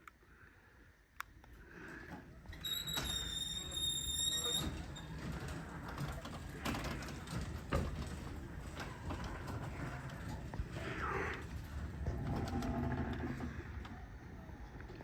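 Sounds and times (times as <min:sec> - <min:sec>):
garage door motor rumbling: 0:01.9 - 0:15.0.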